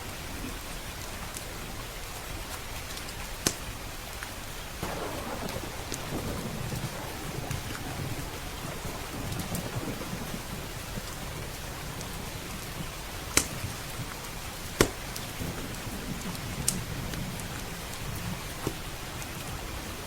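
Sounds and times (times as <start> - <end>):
steady rain: 0.0 - 20.0
wood fire crackling and popping: 2.2 - 19.6.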